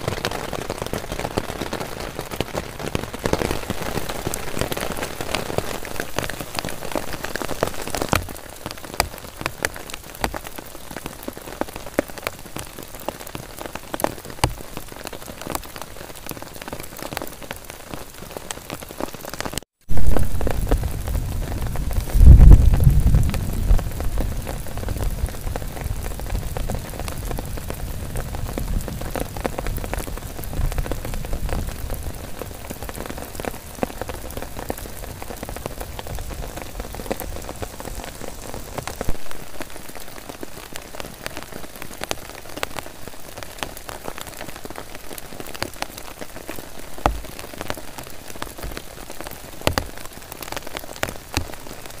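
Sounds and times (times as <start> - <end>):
heavy rain on a tent: 0.0 - 52.0.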